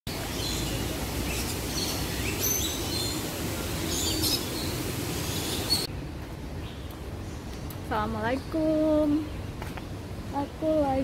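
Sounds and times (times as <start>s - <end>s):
birds chirping and calling: 0.1s - 11.0s.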